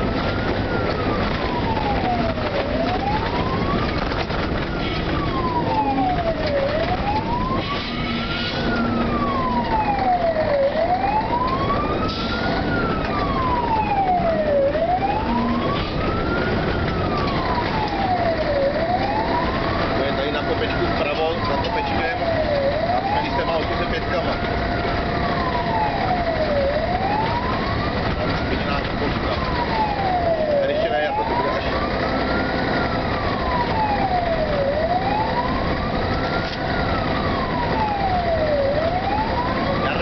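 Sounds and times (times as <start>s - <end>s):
fire engine siren wailing: 0.0s - 40.0s
truck engine and road noise: 0.0s - 40.0s.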